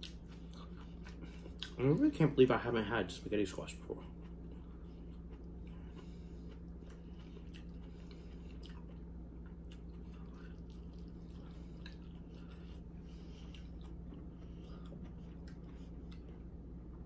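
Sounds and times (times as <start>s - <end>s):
close chewing and mouth sounds: 0.0s - 17.0s
steady low hum: 0.0s - 17.0s.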